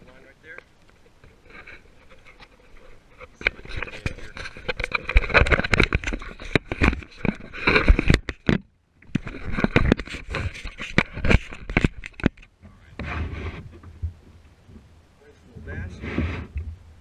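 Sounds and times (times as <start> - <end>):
knocks and scrapes on plastic hull: 1.2 - 14.9, 15.5 - 16.8.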